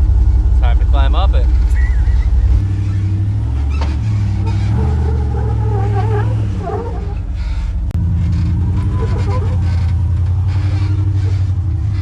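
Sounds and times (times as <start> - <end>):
engine working under load: 0.0 - 12.0
wavering squeal: 1.5 - 12.0.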